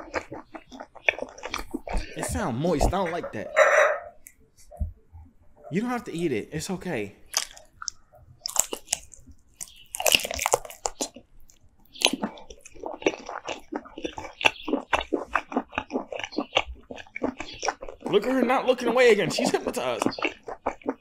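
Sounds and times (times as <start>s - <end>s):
mouth clicks and smacks: 0.0s - 5.0s, 7.2s - 21.0s
chewing and mouth sounds: 0.0s - 6.4s, 7.2s - 21.0s.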